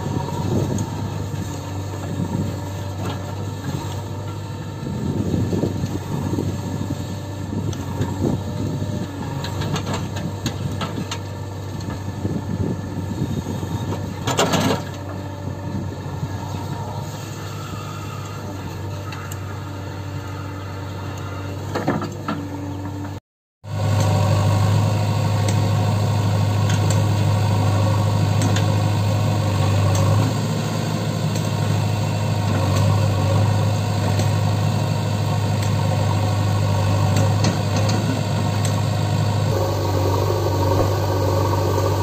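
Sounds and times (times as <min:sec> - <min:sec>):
backhoe diesel engine droning: 0:00.0 - 0:42.0.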